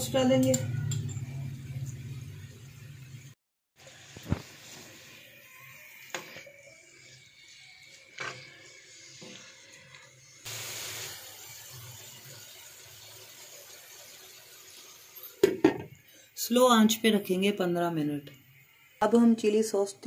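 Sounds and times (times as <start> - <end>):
chicken sizzling in a wok: 0.0 - 19.6.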